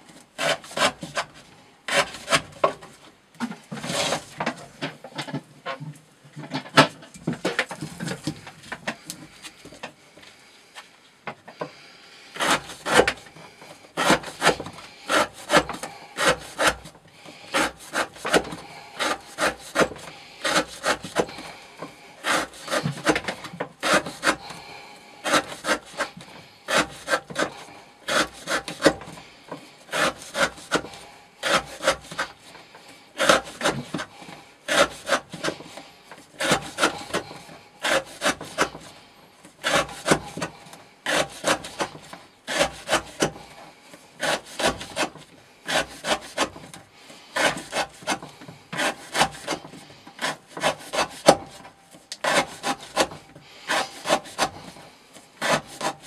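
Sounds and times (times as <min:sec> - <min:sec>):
knife cutting rope on wood: 0:00.1 - 0:09.8, 0:12.3 - 0:56.0.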